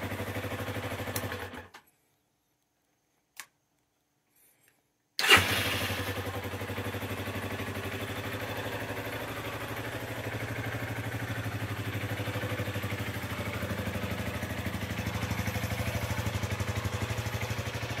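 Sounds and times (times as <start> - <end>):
motorcycle engine idling: 0.0 - 1.7, 5.2 - 18.0.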